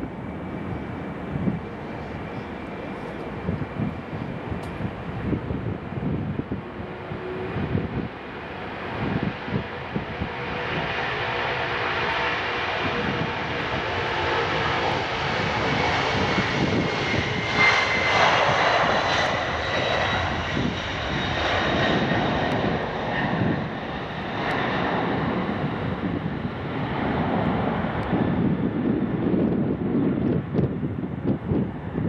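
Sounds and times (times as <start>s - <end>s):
jet engines roaring at takeoff: 0.0s - 32.0s.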